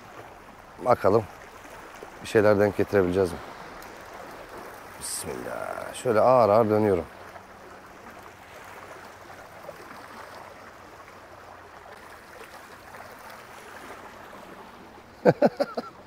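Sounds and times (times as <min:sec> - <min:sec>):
sea water washing on shore: 0:00.0 - 0:16.0.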